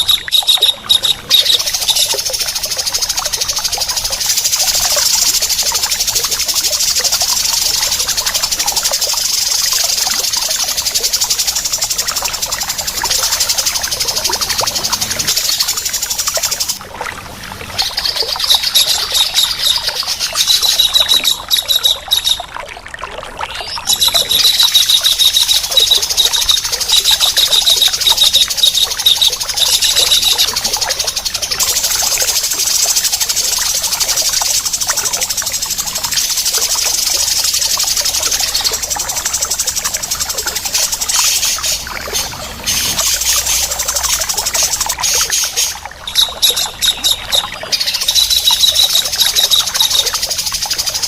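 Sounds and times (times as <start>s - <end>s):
harsh rapid bird calls: 0.0s - 16.8s, 17.8s - 22.5s, 23.6s - 51.0s
running water hiss: 0.0s - 51.0s.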